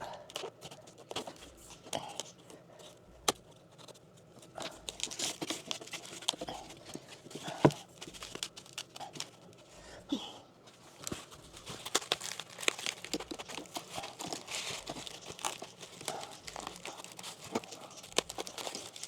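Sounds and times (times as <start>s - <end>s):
pipe insulation crinkling: 0.0s - 10.0s, 10.6s - 19.0s.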